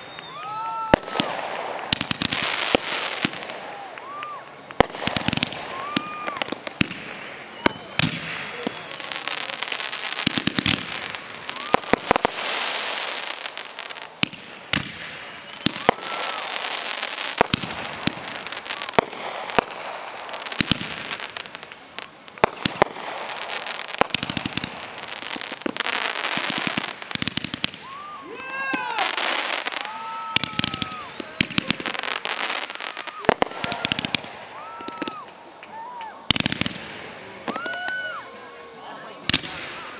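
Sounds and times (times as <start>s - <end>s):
fireworks bangs: 0.0s - 39.9s
fireworks crackling and hissing: 0.0s - 39.9s
fireworks whistles: 0.0s - 39.9s.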